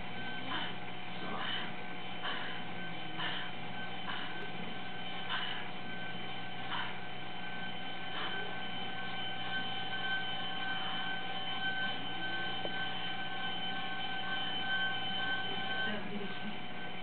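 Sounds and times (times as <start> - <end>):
electrical hum: 0.0 - 17.0
high-pitched whine: 0.0 - 17.0.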